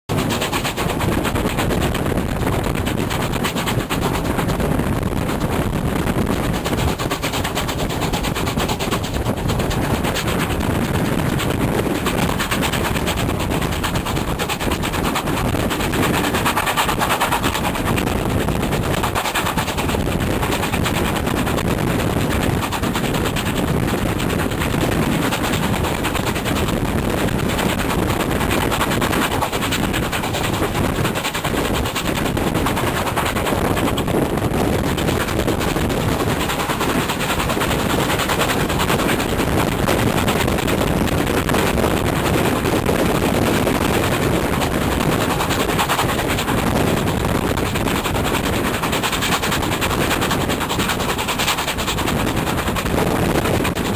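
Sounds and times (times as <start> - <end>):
wind buffeting microphone: 0.1 - 53.9.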